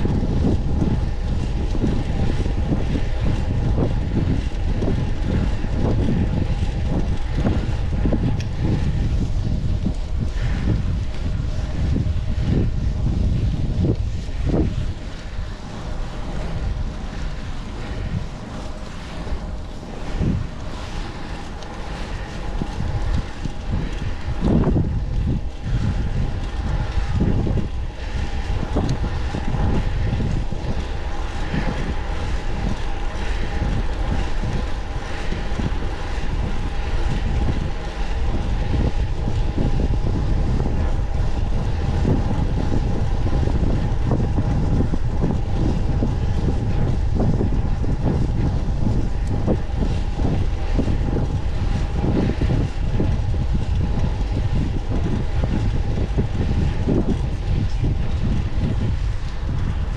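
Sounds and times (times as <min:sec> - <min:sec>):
faint steady hum: 0:00.0 - 0:59.9
wind buffeting microphone: 0:00.0 - 0:59.9.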